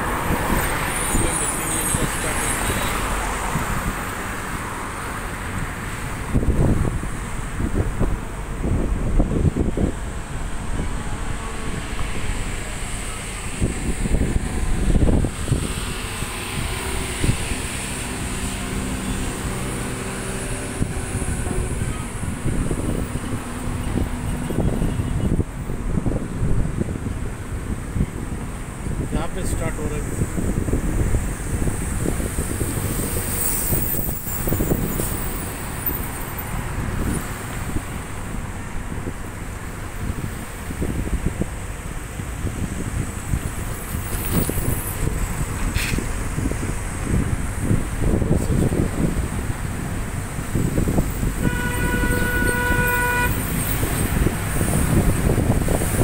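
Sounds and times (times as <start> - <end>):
heavy vehicle engine humming: 0.0 - 56.0
road noise: 0.0 - 56.0
wind on microphone: 0.0 - 56.0.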